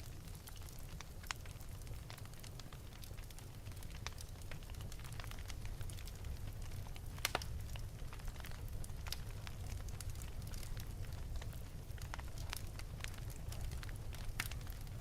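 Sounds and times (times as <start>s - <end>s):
fire popping: 0.0s - 15.0s
low rumble of flames: 0.0s - 15.0s
wood fire crackling: 0.0s - 15.0s.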